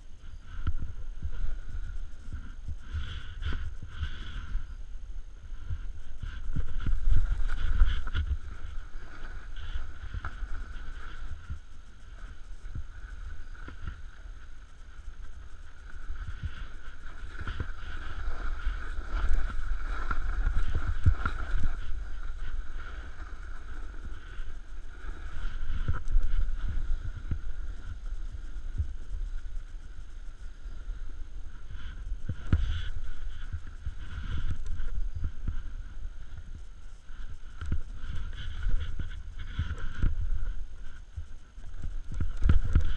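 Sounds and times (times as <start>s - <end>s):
snowboard sliding through snow: 0.0s - 42.9s
wind rumble on microphone: 0.0s - 42.9s.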